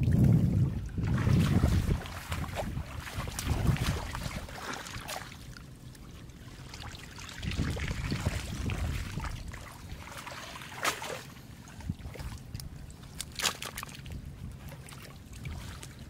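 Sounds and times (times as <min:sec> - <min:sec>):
boots splashing through water: 0:00.0 - 0:16.0
water trickling: 0:00.0 - 0:16.0.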